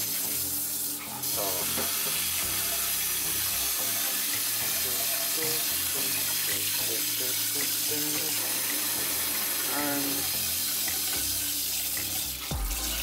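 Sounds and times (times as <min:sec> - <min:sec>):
tap water running into metal pot: 0:00.0 - 0:13.0.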